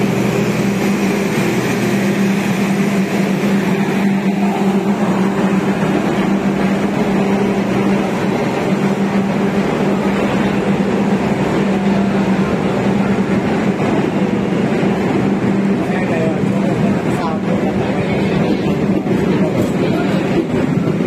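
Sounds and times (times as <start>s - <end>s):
train cars rolling with low hum: 0.0s - 21.0s.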